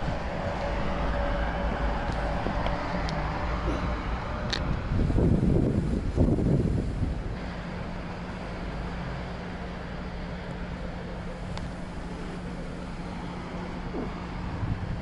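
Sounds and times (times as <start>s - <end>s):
low steady hum: 0.0s - 15.0s
road and wind noise: 0.0s - 15.0s.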